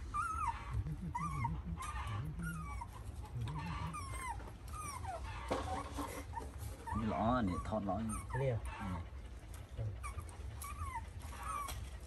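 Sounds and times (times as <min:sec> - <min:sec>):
puppies whining: 0:00.0 - 0:12.0.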